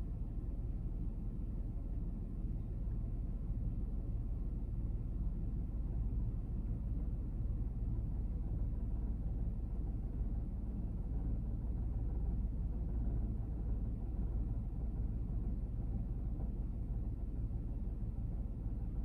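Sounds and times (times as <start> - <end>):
car engine rumble from cabin: 0.0 - 19.0.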